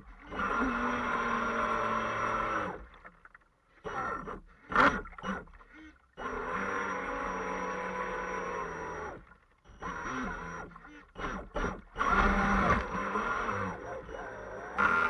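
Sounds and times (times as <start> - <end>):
model boat motor: 0.0 - 15.0.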